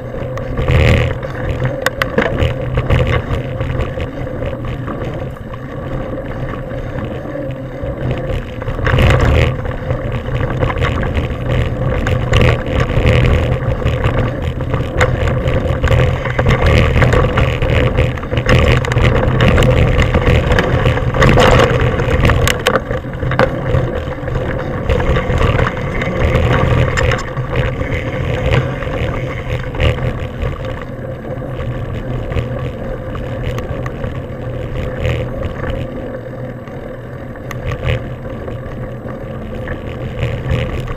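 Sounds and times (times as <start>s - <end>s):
bike knocking and rattling: 0.0s - 40.9s
tyres rumbling on dirt: 0.0s - 40.9s
wind buffeting microphone: 0.0s - 40.9s.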